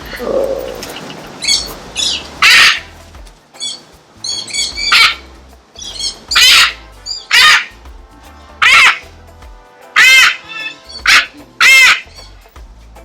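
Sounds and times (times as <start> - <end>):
high chirping calls: 0.0 - 7.8, 8.6 - 9.1, 10.0 - 12.6
parrot squawking: 0.0 - 7.8, 8.6 - 9.1, 9.9 - 12.4.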